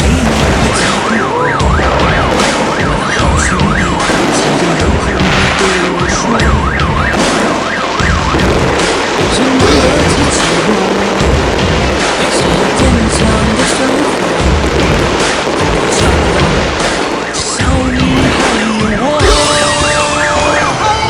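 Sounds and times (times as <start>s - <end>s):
firecrackers crackling: 0.0s - 21.0s.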